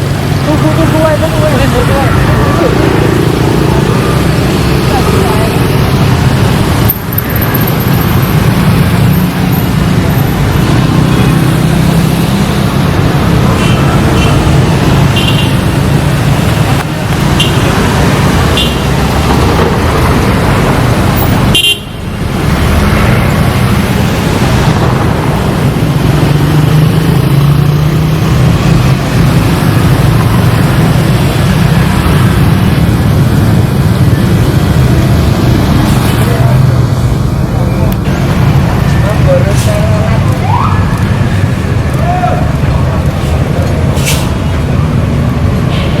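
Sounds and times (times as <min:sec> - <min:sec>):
bus engine rumble: 0:00.0 - 0:46.0.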